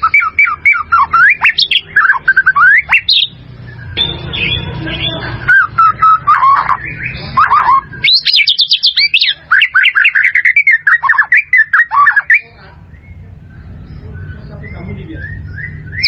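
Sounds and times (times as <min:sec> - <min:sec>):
bird singing whistled song: 0:00.0 - 0:16.0.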